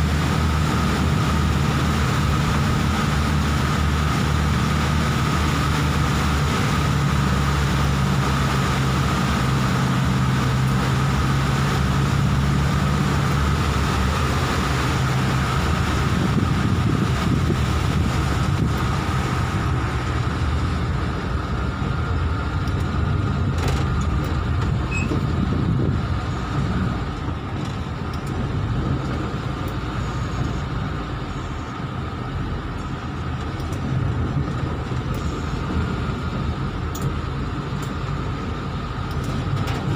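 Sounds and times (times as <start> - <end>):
car engine hum: 0.0 - 39.9
hiss of rain and water: 0.0 - 39.9.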